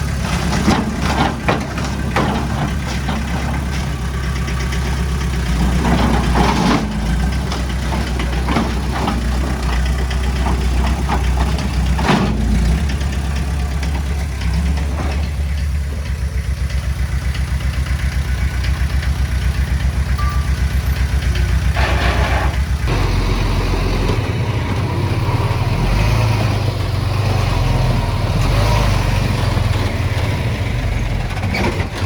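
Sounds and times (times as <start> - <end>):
diesel engine throbbing: 0.0 - 32.0.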